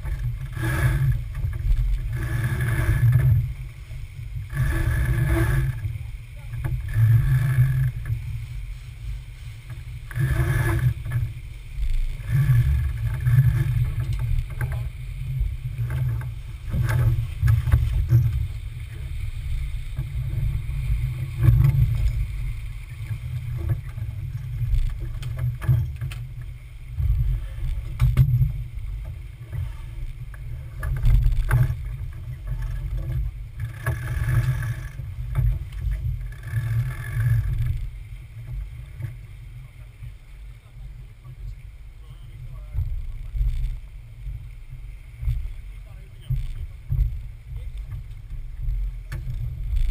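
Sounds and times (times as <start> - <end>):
water rushing along hull: 0.0 - 49.9
wind on microphone: 0.0 - 49.9.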